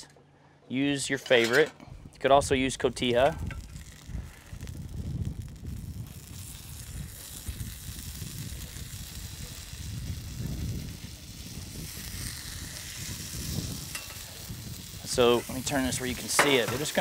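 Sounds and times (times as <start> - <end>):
taco sizzling on a hot griddle: 2.6 - 17.0.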